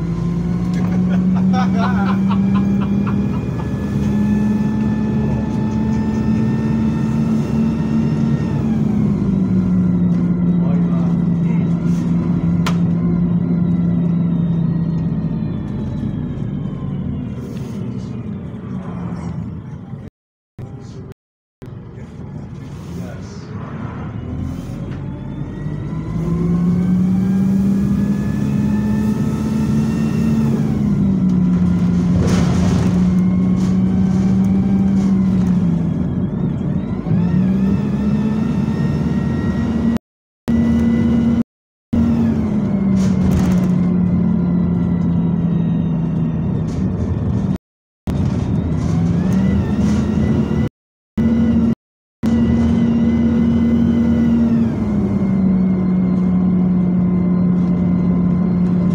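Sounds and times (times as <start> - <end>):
rising and falling whine: 0.0 - 19.5, 23.4 - 32.2, 32.8 - 41.4, 42.0 - 58.9
bus engine accelerating: 0.0 - 41.4, 42.0 - 58.9.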